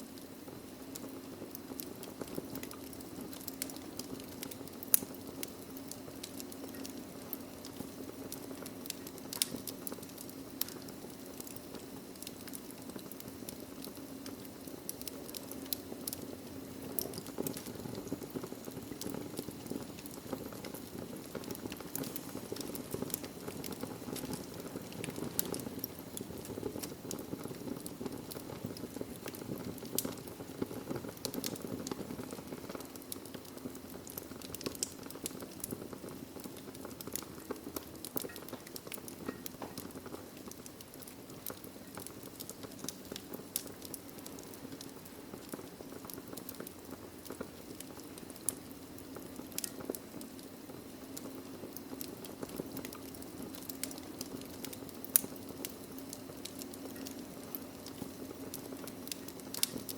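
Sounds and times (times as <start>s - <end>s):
fire crackles and pops: 0.0s - 59.9s
low rush of flames: 0.0s - 59.9s.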